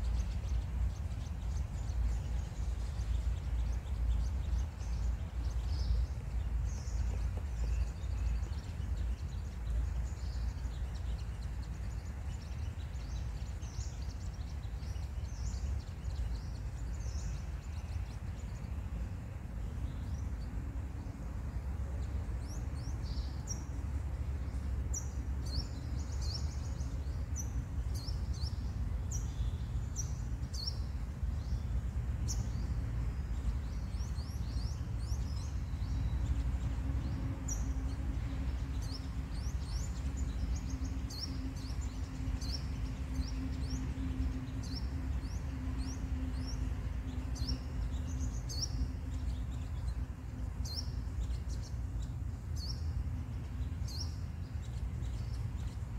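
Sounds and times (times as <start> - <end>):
birds chirping: 0.0 - 55.9
low outdoor rumble: 0.0 - 55.9
steady low hum: 0.0 - 55.9.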